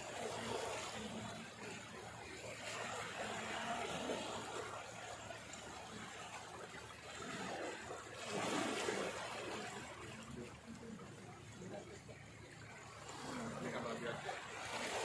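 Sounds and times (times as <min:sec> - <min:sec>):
water sloshing and flowing: 0:00.0 - 0:15.0.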